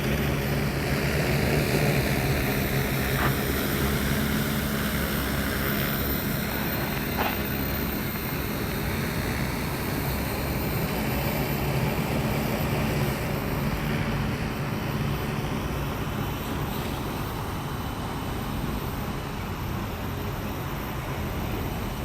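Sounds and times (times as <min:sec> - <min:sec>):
drone rotors whirring: 0:00.0 - 0:22.0.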